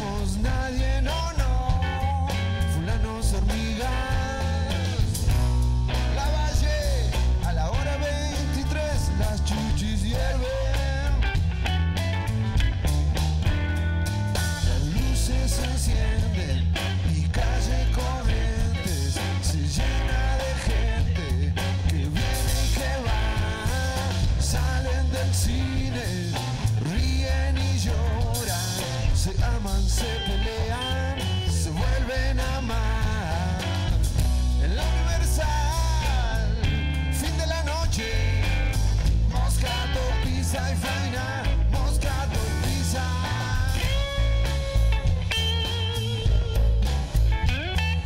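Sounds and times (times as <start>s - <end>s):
electric bass playing: 0.0s - 48.0s
electric guitars playing: 0.0s - 48.0s.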